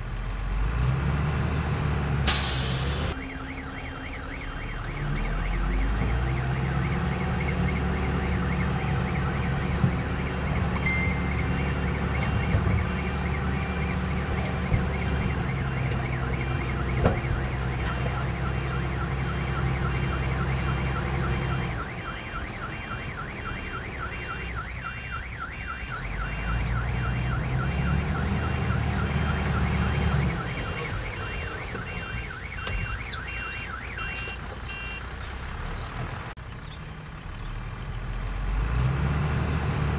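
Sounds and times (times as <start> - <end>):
heavy machinery diesel engine: 0.0 - 39.9
reversing alarm warbling: 2.8 - 35.0.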